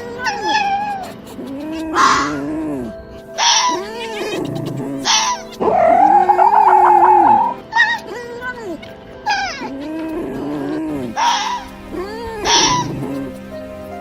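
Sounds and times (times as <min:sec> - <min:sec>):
foxes whining and mewing: 0:00.0 - 0:14.0
soft background music: 0:00.0 - 0:14.0
fox raspy screeches: 0:00.2 - 0:13.4.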